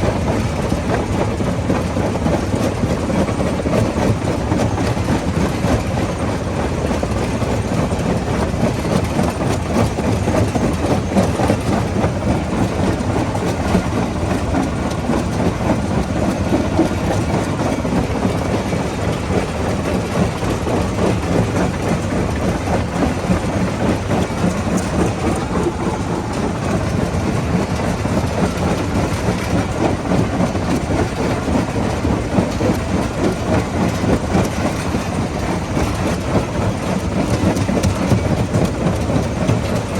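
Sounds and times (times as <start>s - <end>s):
rock crusher rumble: 7.6s - 39.9s.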